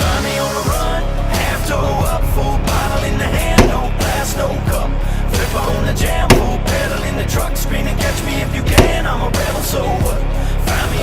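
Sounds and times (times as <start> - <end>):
rock music with steady beat: 0.0 - 11.0.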